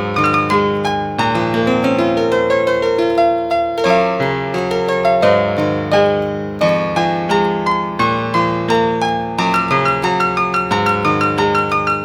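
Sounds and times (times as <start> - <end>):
software piano melody: 0.0 - 12.0.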